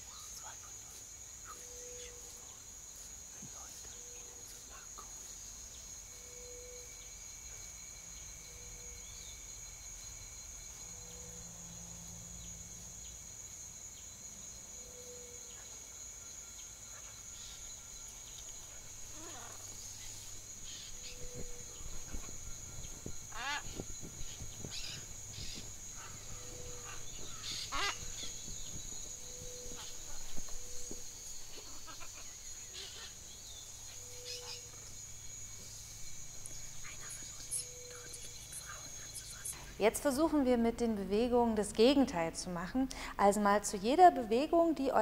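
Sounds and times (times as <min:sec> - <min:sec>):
high insect-like chirring: 0:00.0 - 0:45.0.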